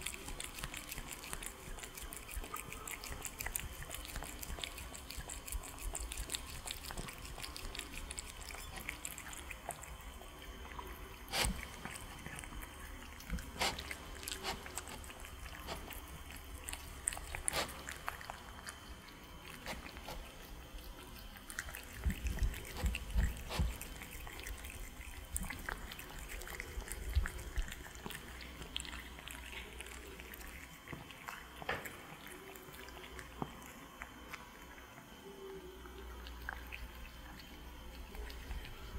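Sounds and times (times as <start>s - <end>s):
cats chewing and licking: 0.0s - 38.9s.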